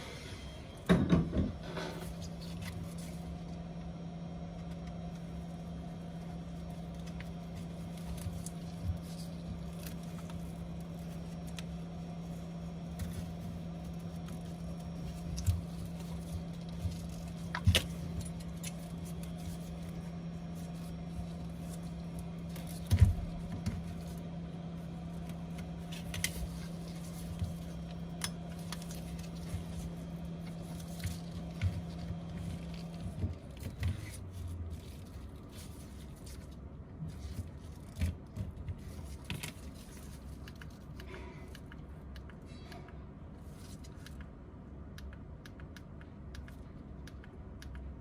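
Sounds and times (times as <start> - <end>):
low electric hum: 0.0 - 48.0.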